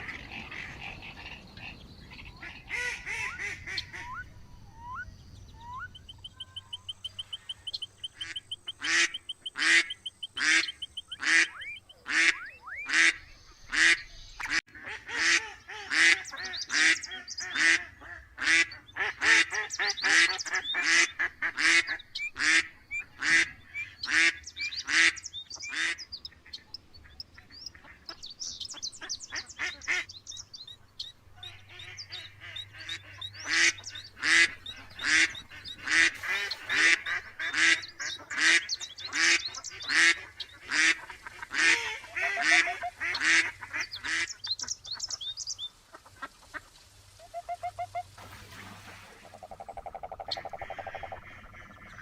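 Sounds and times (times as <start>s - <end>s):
waterfowl honking: 0.0s - 5.0s, 5.6s - 30.1s, 31.0s - 48.2s, 49.2s - 52.0s.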